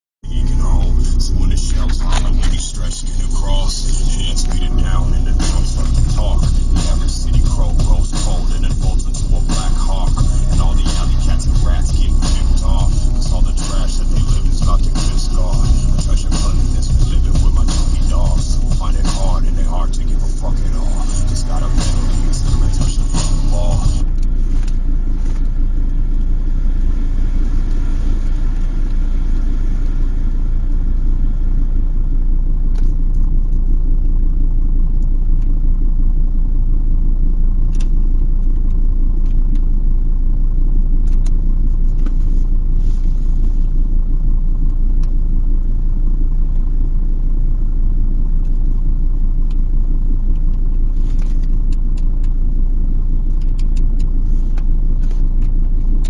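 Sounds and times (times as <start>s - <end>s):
car low rumble: 0.2s - 56.0s.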